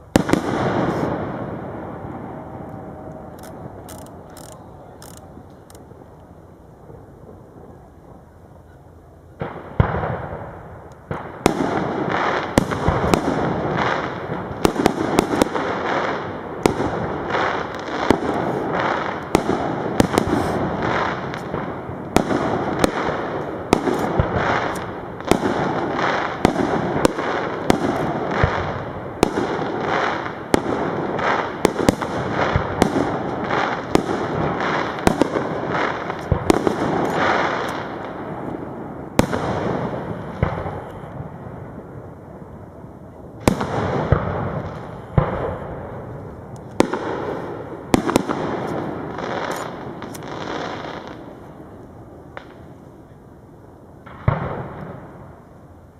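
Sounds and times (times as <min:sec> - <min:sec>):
fireworks bursting: 0:00.0 - 0:53.4, 0:54.0 - 0:55.7.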